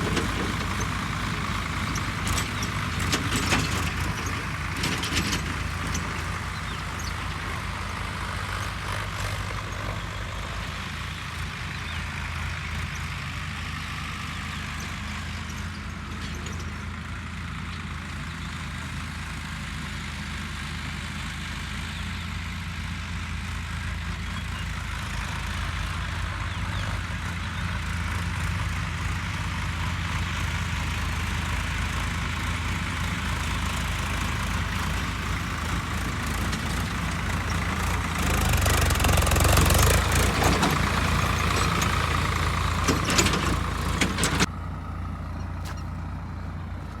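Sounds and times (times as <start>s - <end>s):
diesel tractor engine running: 0.0s - 47.0s.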